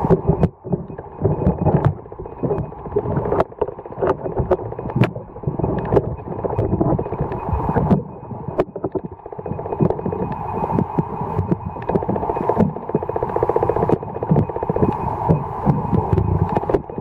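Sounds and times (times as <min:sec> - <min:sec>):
sharp clicks: 0:00.0 - 0:17.0
underwater rumble and sloshing: 0:00.0 - 0:17.0.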